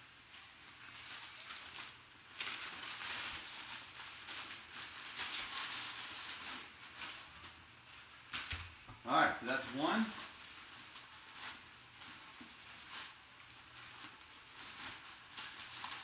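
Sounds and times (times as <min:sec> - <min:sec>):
packaging rustling by hand: 0:00.1 - 0:08.8, 0:09.4 - 0:16.0.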